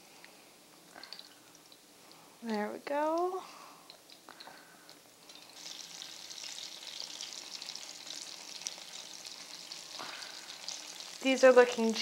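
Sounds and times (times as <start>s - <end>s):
patties sizzling in hot oil: 1.0s - 12.0s.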